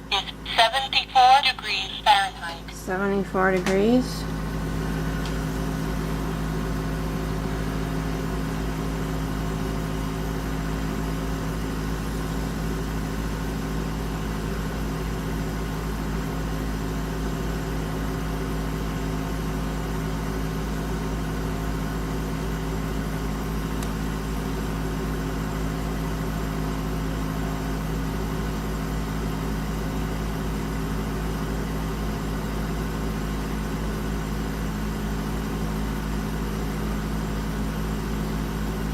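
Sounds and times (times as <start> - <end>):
air conditioner compressor hum: 0.0 - 38.9
air conditioner fan noise: 0.0 - 38.9.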